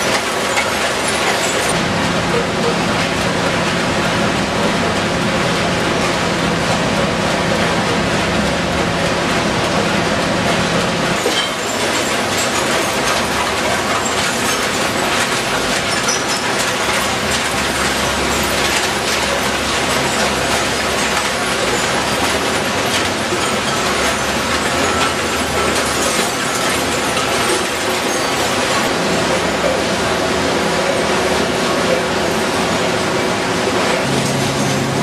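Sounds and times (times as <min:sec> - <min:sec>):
sorting machinery din: 0:00.0 - 0:35.0.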